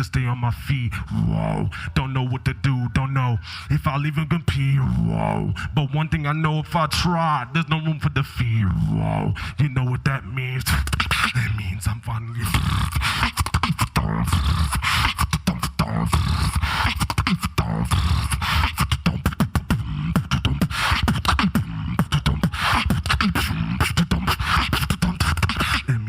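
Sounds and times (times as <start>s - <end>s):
person beatboxing: 0.0s - 2.3s, 3.7s - 6.3s, 6.9s - 26.0s.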